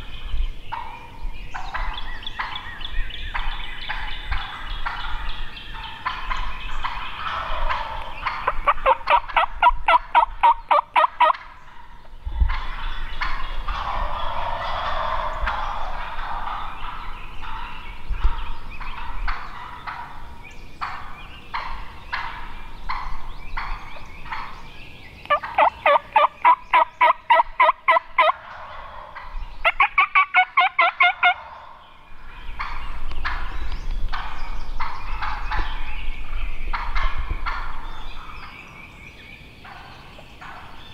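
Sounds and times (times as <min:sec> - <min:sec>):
turkeys gobbling: 0:00.7 - 0:02.6, 0:03.3 - 0:32.0, 0:32.6 - 0:33.5, 0:34.1 - 0:35.8, 0:36.7 - 0:38.6, 0:39.6 - 0:40.9.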